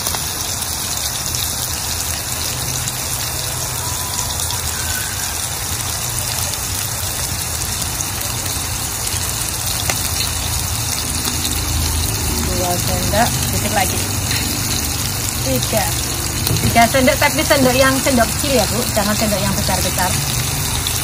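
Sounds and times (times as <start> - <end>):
shrimp sizzling in frying pan: 0.0 - 21.0.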